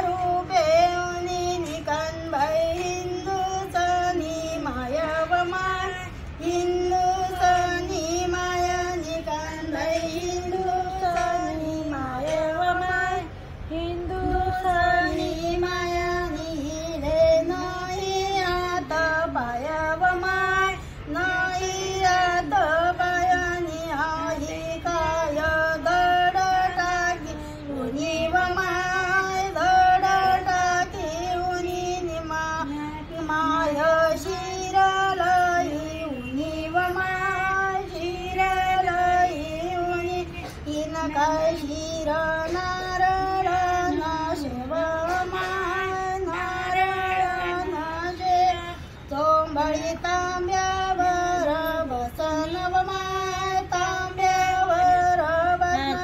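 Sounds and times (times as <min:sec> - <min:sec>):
person singing devotional folk song: 0:00.0 - 0:56.0.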